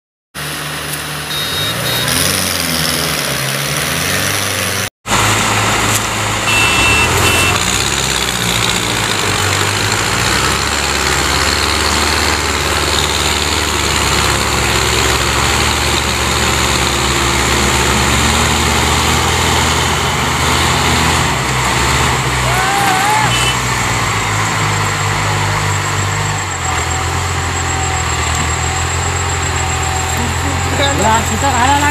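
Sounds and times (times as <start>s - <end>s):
tractor diesel engines under load: 0.4s - 31.9s.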